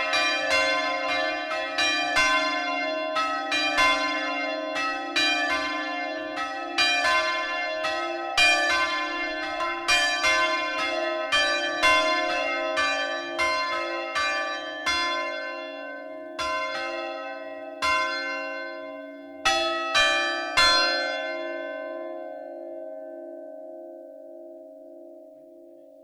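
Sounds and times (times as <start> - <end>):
church bells ringing: 0.0 - 25.7.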